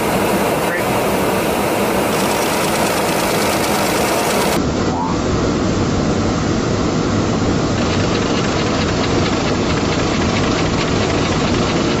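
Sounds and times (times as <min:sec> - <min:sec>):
aircraft engines rumbling: 0:00.0 - 0:12.0
rushing air: 0:00.0 - 0:12.0.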